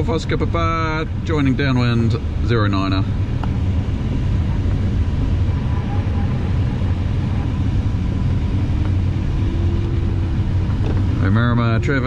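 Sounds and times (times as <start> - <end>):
airflow rushing around glider: 0.0 - 12.0.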